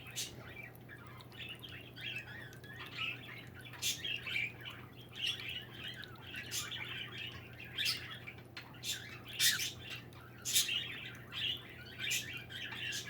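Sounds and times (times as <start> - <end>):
low steady hum: 0.0 - 13.0
songbirds chirping: 0.0 - 13.0.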